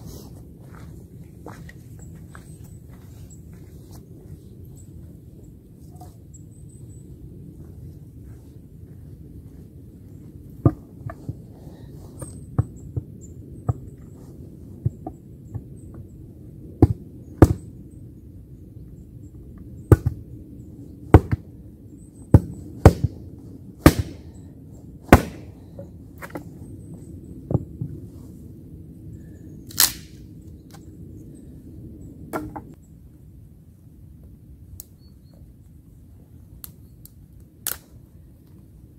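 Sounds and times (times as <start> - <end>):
low steady background noise: 0.0 - 38.9.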